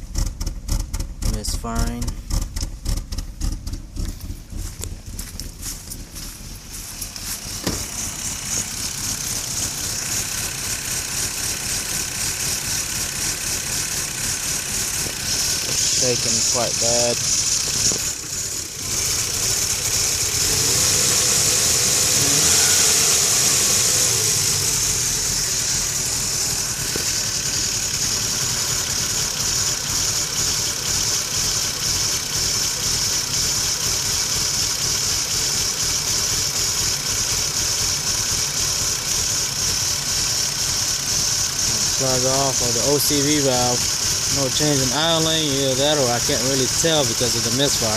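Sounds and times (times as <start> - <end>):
engine idling rough: 0.0 - 47.9.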